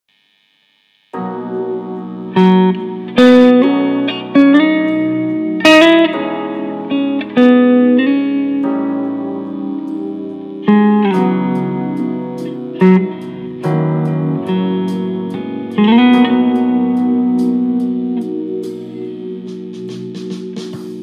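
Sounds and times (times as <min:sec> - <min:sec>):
hollow-body guitar plucked chords: 0:01.2 - 0:21.0.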